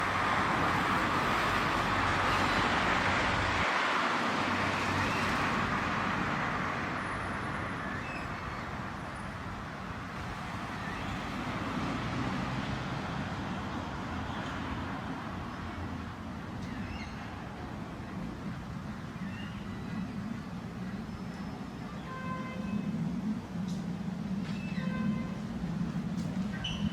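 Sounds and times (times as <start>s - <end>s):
steady rushing noise: 0.0s - 16.6s, 17.3s - 26.9s.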